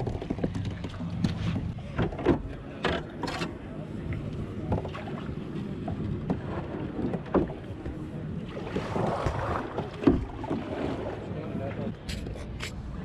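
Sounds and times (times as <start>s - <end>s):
water noise: 0.0s - 13.0s.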